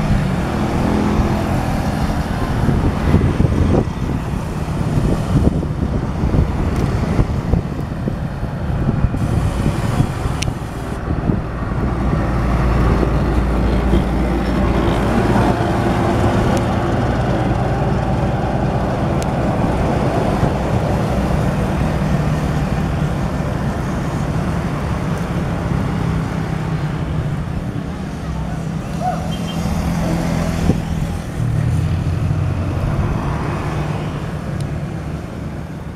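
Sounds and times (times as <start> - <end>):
road roller diesel engine humming: 0.0 - 35.9.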